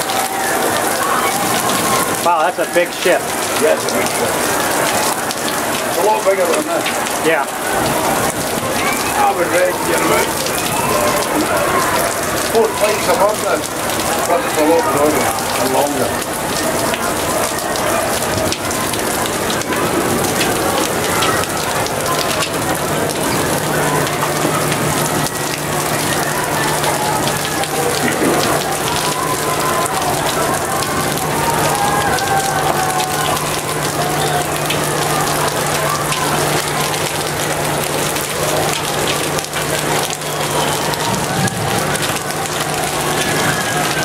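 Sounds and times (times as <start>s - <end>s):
faint distant voices: 0.0s - 44.0s
rain pattering on deck: 0.0s - 44.0s.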